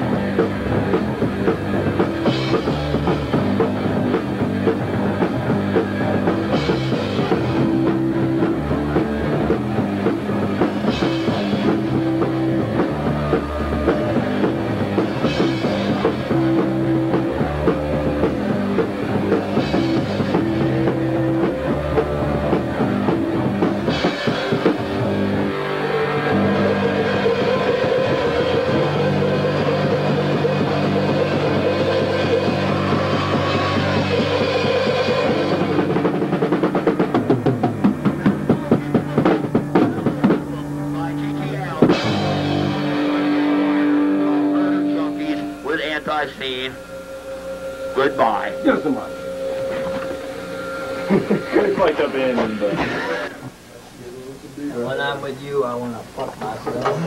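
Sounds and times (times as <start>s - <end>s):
electric guitar: 0.0s - 53.7s
drum kit: 0.0s - 57.0s.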